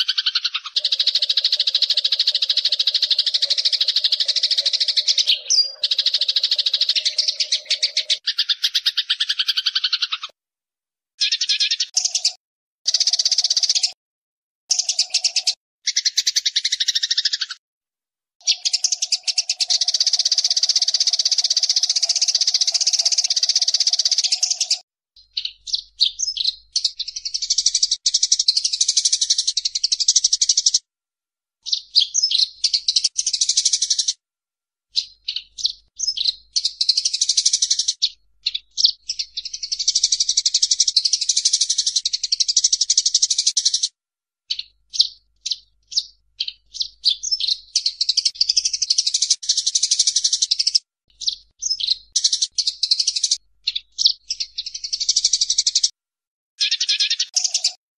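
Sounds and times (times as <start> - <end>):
sparrows chirping harshly: 0.0 - 10.4, 11.2 - 14.0, 14.7 - 17.6, 18.4 - 30.9, 31.6 - 34.2, 34.9 - 56.0, 56.6 - 57.8.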